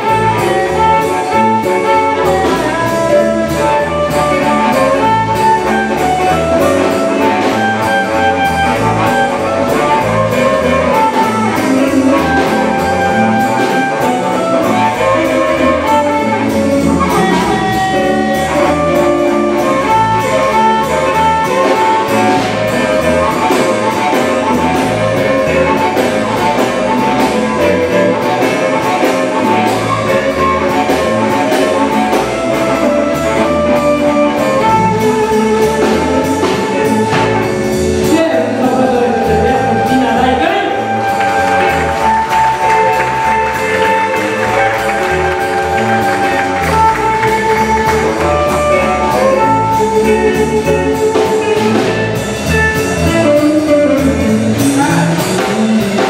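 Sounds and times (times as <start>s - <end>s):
amplified harmonica: 0.0s - 56.0s
blues band playing: 0.0s - 56.0s.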